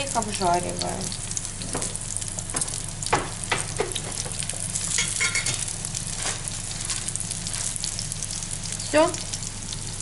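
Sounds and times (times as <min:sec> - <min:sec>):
slices sizzling in a frying pan: 0:00.0 - 0:10.0.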